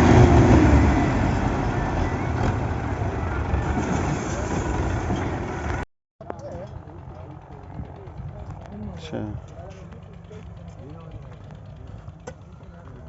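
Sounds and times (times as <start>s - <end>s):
tractor diesel engine rumble: 0.0s - 13.0s.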